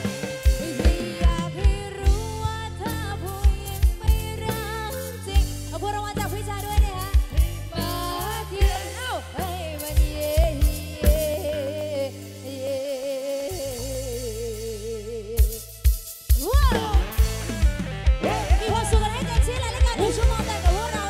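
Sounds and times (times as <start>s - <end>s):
drum kit: 0.0s - 21.0s
electric bass: 0.0s - 21.0s
woman singing through microphone: 0.4s - 15.7s, 16.4s - 17.2s, 18.2s - 21.0s.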